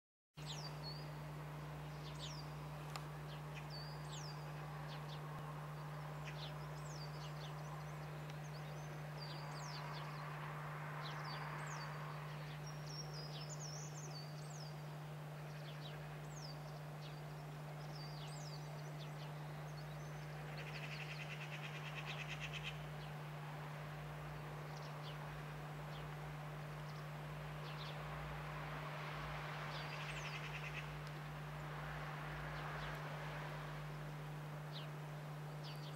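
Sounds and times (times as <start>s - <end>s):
small birds chirping: 0.4s - 35.9s
steady low hum: 0.4s - 35.9s.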